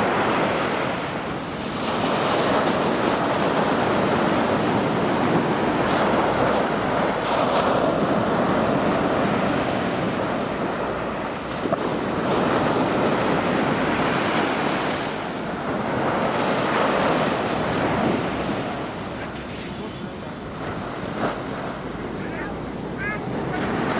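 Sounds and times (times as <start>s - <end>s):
sea waves breaking: 0.0s - 23.9s.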